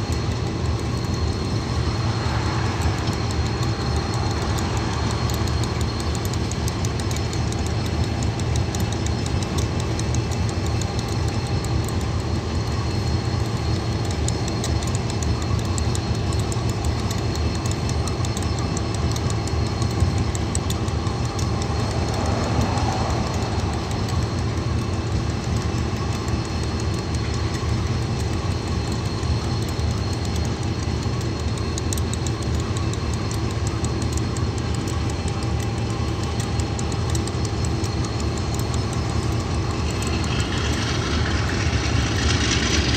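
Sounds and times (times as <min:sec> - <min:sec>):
locomotive engine idling: 0:00.0 - 0:42.9.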